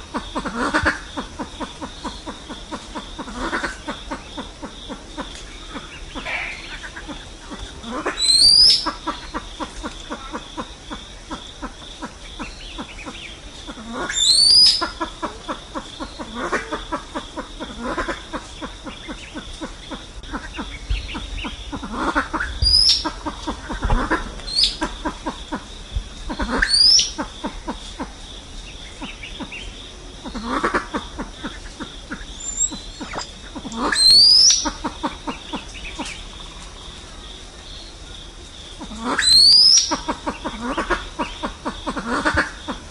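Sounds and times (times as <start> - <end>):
pheasant clucking: 0.0 - 25.7, 26.3 - 28.2, 30.2 - 36.3, 38.8 - 42.9.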